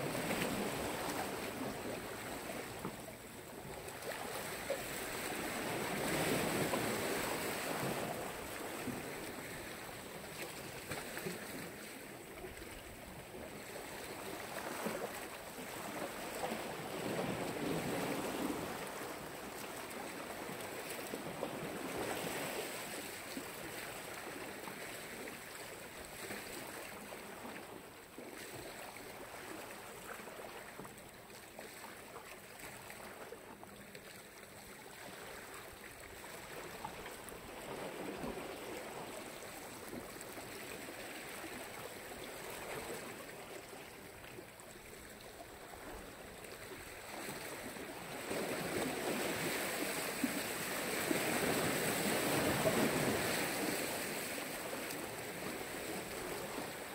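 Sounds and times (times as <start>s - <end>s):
waves washing onto shore: 0.0s - 56.9s.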